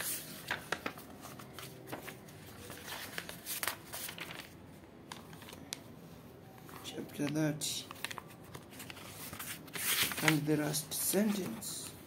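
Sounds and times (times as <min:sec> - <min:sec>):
book pages flipping: 0:00.0 - 0:05.9, 0:07.8 - 0:12.0.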